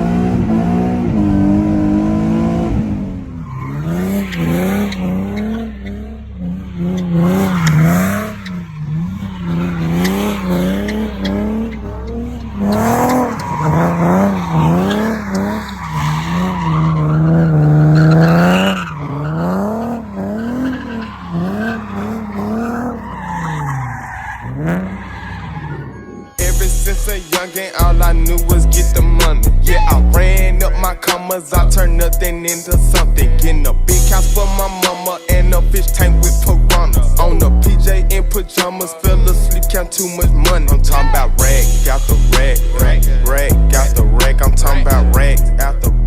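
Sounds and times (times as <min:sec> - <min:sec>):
car engine revving: 0:00.0 - 0:46.0
tyres squealing: 0:03.4 - 0:46.0.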